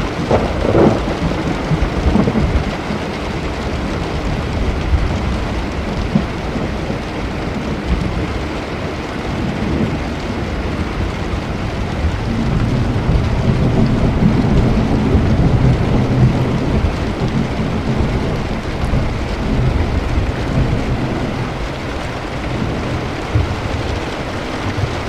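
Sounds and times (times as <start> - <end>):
rolling thunder: 0.0 - 8.5, 9.3 - 25.0
heavy rain: 0.0 - 25.0.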